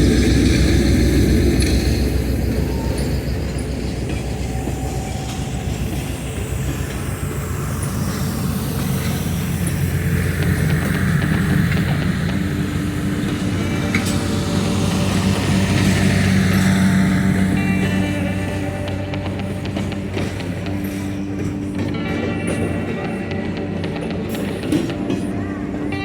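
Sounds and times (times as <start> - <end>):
low hum: 0.0 - 26.0
train wheels rumbling on rails: 0.0 - 26.0.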